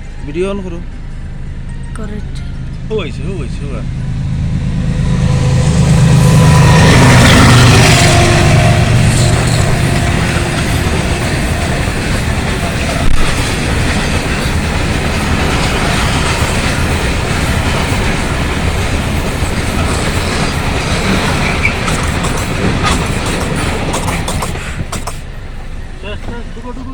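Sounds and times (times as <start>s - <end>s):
freight train wheels clattering: 1.0s - 26.9s.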